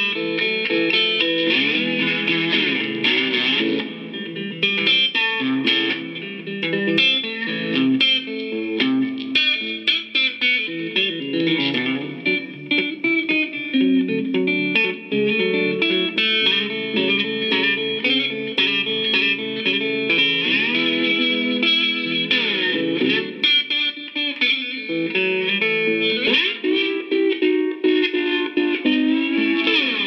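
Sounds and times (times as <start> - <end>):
slide guitar bluesy run: 0.0 - 30.0.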